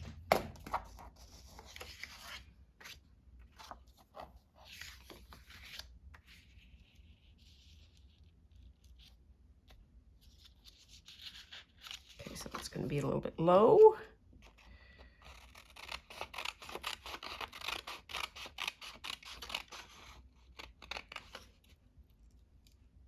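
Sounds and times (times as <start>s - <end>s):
faint steady scratching: 1.1s - 13.2s, 14.4s - 23.0s.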